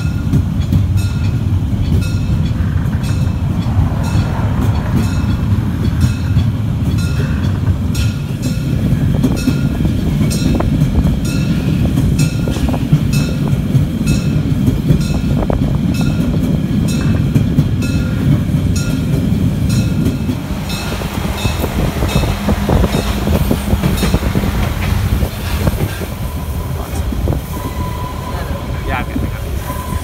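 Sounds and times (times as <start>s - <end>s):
wheels clicking over rail joints: 0.0s - 28.2s
train carriage rumble and rattle: 0.0s - 30.0s.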